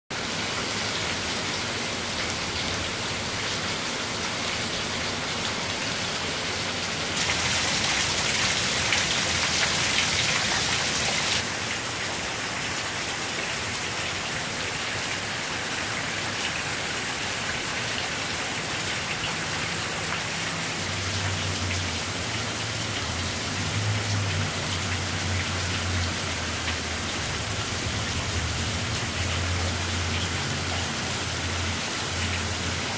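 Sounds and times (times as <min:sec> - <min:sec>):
heavy rain pouring: 0:00.1 - 0:32.9.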